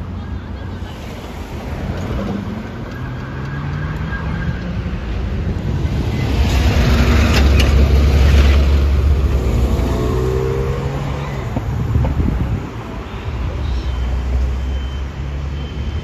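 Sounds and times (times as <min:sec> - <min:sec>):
vehicle engine rumble passing: 0:00.9 - 0:16.0.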